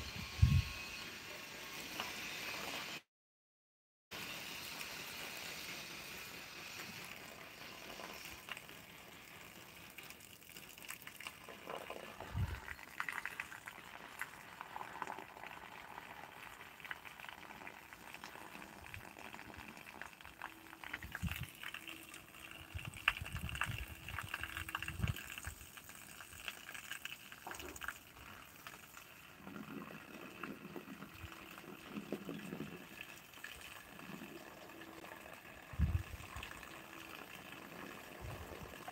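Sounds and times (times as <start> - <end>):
faint outdoor background noise: 4.2 - 38.9.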